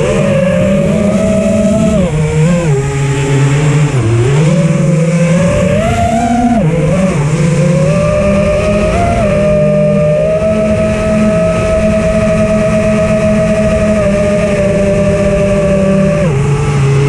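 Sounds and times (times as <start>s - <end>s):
electric motor and propeller whining: 0.0s - 17.0s.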